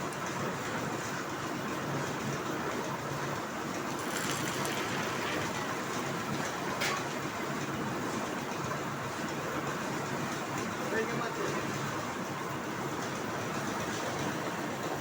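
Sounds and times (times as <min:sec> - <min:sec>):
concrete mixer churning: 0:00.4 - 0:15.0.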